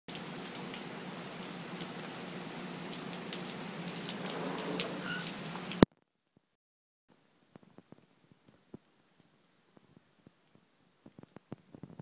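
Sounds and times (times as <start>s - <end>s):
rain on concrete: 0.1s - 5.9s, 7.5s - 12.0s.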